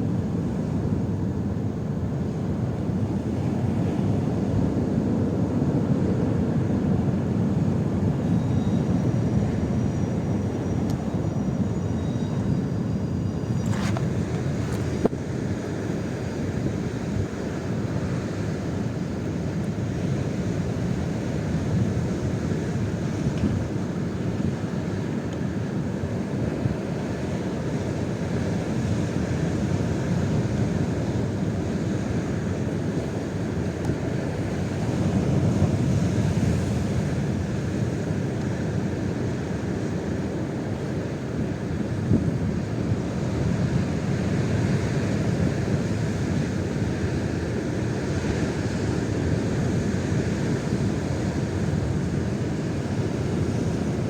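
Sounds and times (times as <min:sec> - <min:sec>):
gale wind buffeting microphone: 0:00.0 - 0:54.0.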